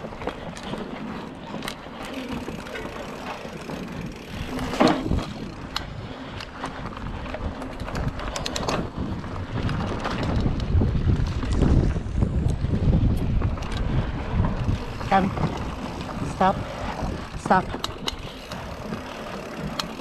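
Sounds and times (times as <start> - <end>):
bike tyres rattling on dirt trail: 0.0 - 20.0
quick run of clicks: 0.1 - 20.0.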